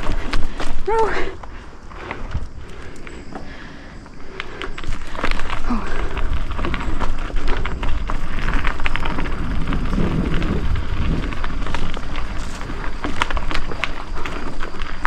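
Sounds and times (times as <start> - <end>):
bike rattling and clicking: 0.0 - 15.0
tyre and wind rumble: 0.0 - 15.0.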